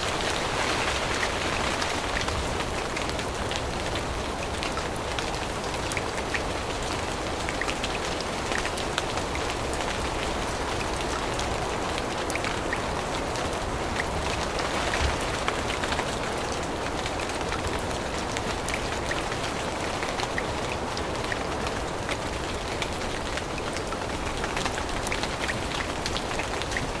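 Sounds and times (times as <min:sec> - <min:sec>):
steady rain in forest: 0:00.0 - 0:27.0.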